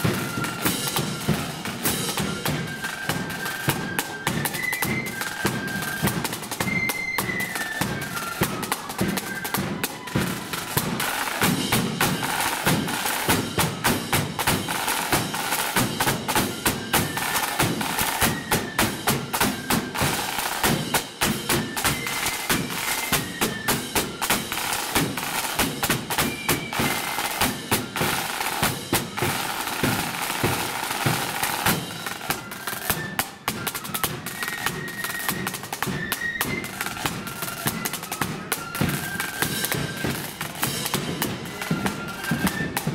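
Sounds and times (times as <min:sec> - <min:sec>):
flute tune: 0:00.0 - 0:42.9
snare drum rolls: 0:00.0 - 0:42.9.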